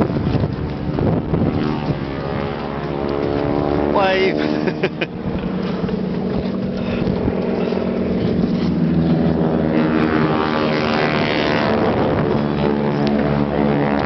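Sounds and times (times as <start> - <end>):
boat engine running: 0.0 - 14.0
wind and water hissing: 0.0 - 14.0.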